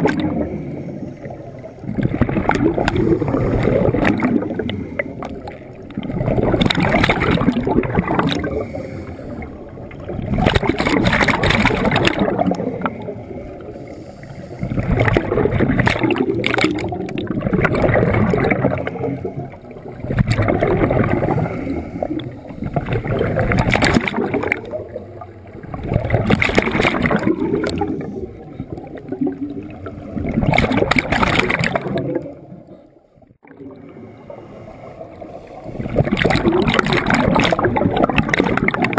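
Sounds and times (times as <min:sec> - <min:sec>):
bubbles gurgling from regulator: 0:00.0 - 0:38.9.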